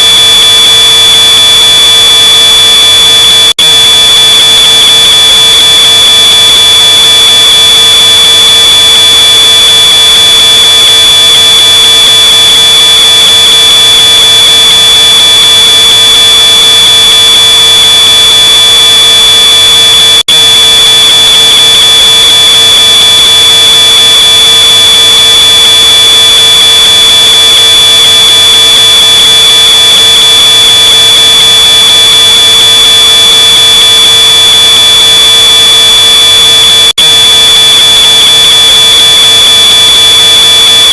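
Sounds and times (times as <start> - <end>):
distorted smoke alarm tone: 0.0 - 40.9.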